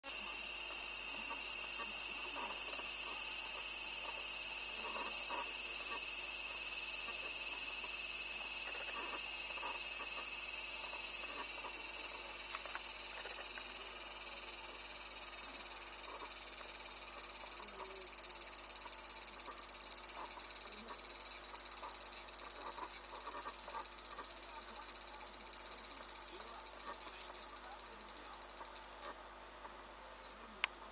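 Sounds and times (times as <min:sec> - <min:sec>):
cicada buzzing: 0:00.0 - 0:29.2.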